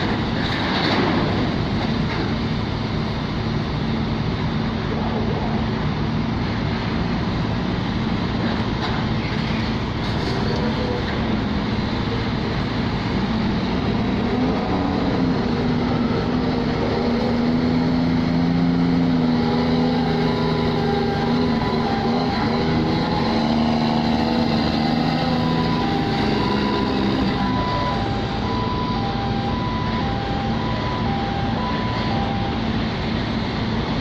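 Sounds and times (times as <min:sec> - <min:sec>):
ship engine drone: 0:00.0 - 0:34.0
truck engine hum: 0:00.0 - 0:34.0.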